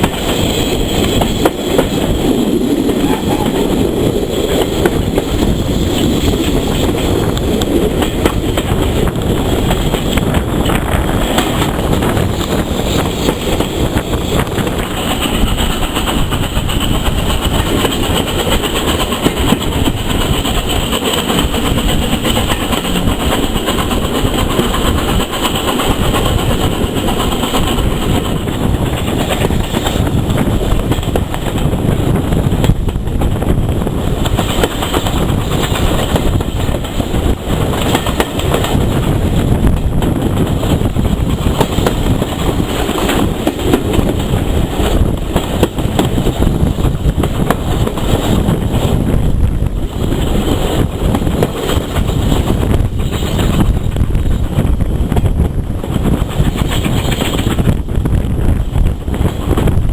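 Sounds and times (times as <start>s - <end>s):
train running on track: 0.0s - 59.9s.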